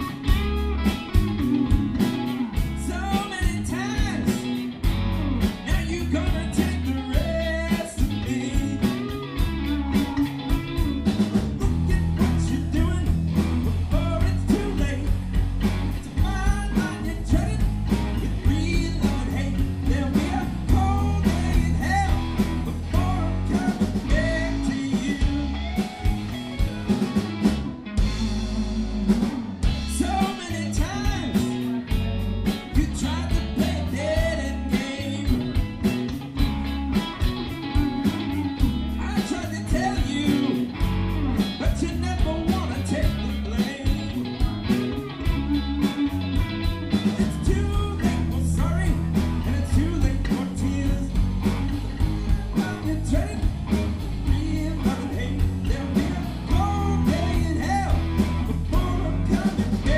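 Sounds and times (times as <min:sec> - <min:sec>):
blues rock band playing: 0:00.0 - 0:59.9.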